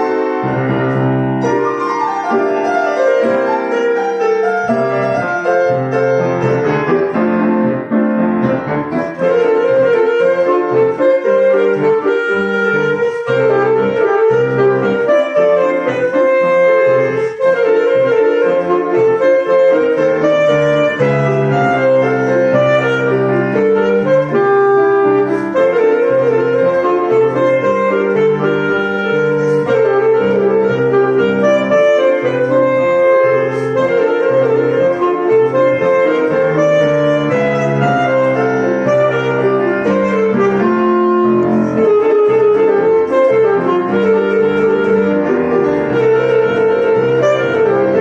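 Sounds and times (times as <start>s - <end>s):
piano accompaniment: 0.0s - 48.0s
saxophone-like melody: 0.0s - 48.0s.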